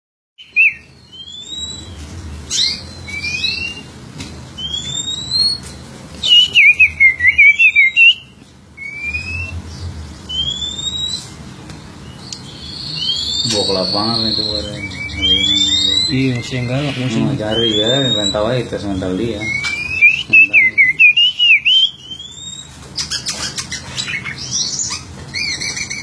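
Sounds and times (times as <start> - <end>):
bird singing whistled notes: 0.4 - 3.9, 4.6 - 11.4, 12.0 - 26.0.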